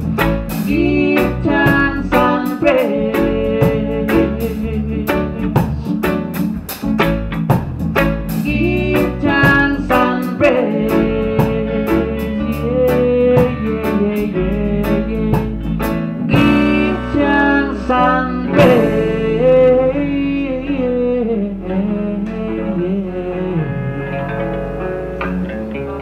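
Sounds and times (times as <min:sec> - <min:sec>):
drum kit: 0:00.0 - 0:22.7
electric guitar: 0:00.0 - 0:26.0
keyboard: 0:00.0 - 0:26.0.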